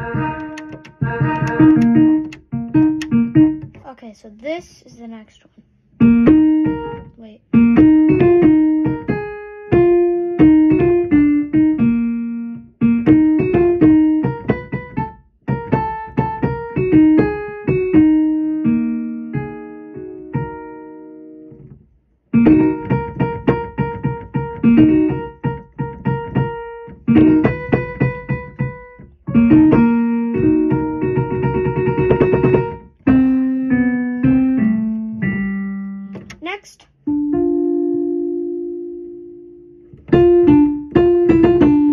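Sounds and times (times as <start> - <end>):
electric keyboard melody: 0.0 - 3.8, 6.0 - 36.4, 37.0 - 41.9.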